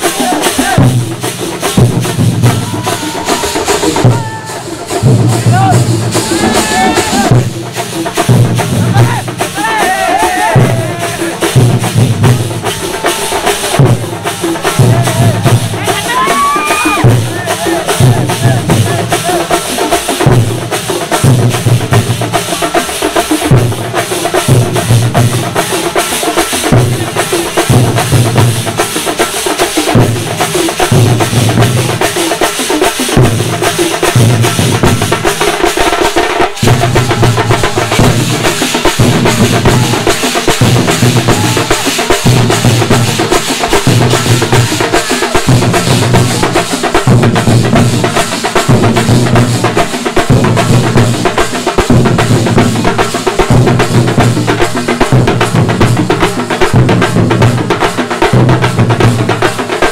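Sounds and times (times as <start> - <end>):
deep booming drum beat: 0.0 - 59.9
stick-beaten drums and cymbals: 0.0 - 59.9.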